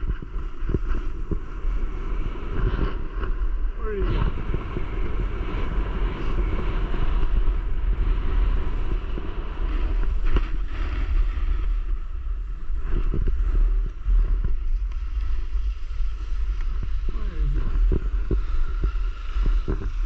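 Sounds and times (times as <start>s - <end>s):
skis scraping over snow: 0.0s - 20.0s
wind buffeting microphone: 0.0s - 20.0s.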